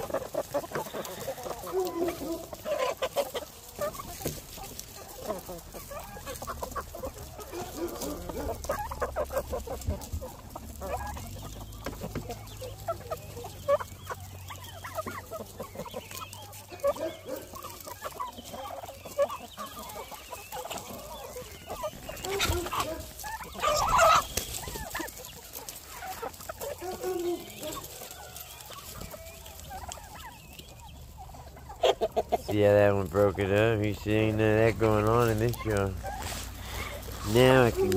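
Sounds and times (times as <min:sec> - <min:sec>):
chickens clucking: 0:00.0 - 0:37.9
chickens squawking: 0:00.0 - 0:37.9.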